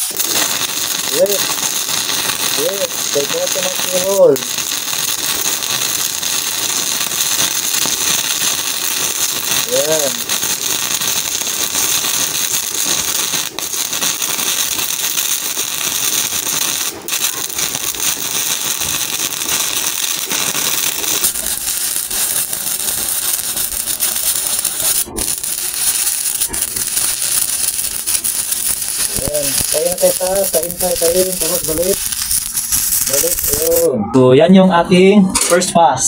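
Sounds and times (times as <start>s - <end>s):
welding arc crackling: 0.0s - 34.0s.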